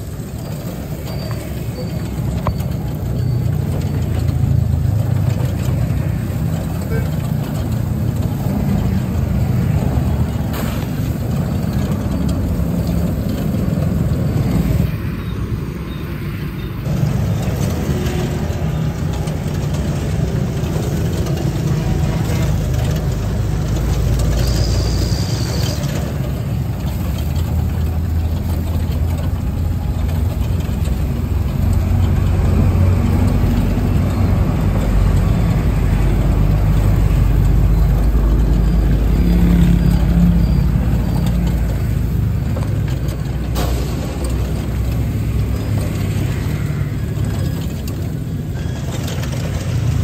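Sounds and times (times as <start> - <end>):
traffic engines rumbling: 0.0 - 50.0.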